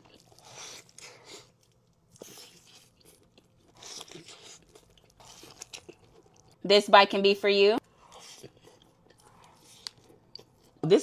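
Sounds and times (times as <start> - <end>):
person chewing food: 0.0 - 6.6, 7.8 - 10.8.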